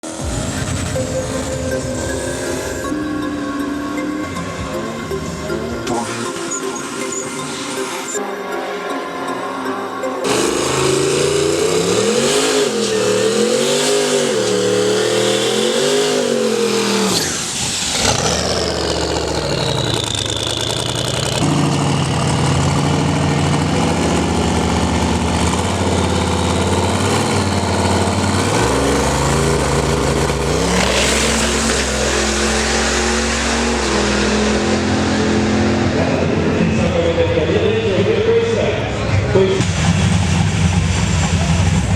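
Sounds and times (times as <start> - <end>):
engine shifting through gears: 0.0 - 8.2, 9.5 - 41.9
truck engines revving: 0.0 - 41.9.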